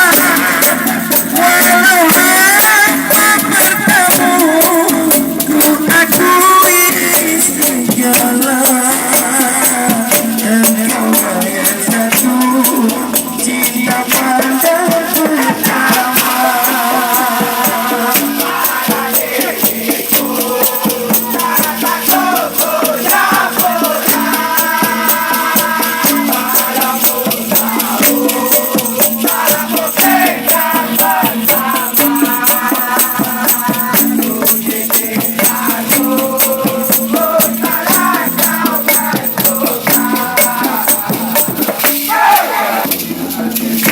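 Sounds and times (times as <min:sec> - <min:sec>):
song with fast shaker rhythm: 0:00.0 - 0:43.9.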